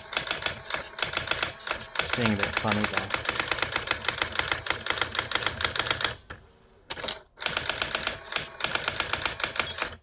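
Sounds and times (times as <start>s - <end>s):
electronic typewriter printing: 0.0s - 10.0s.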